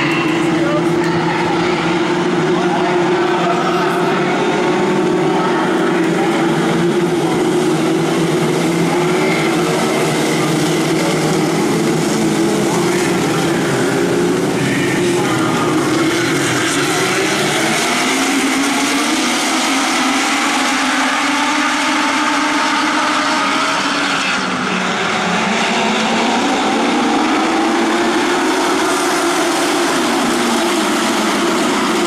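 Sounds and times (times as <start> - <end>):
race cars passing: 0.0 - 32.0.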